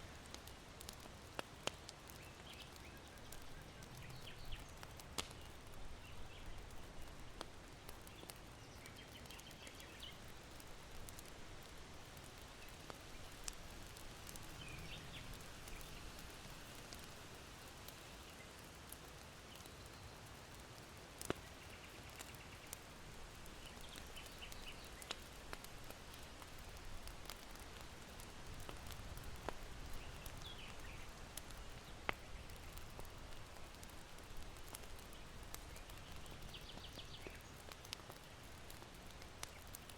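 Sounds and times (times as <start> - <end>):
charcoal embers crackling: 0.0 - 39.9
small birds chirping: 0.3 - 11.3, 12.0 - 20.5, 21.2 - 39.9.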